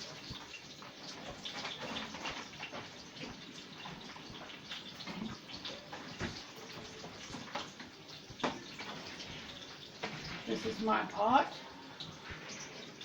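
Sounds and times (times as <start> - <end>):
tap running water into sink: 0.0 - 13.0.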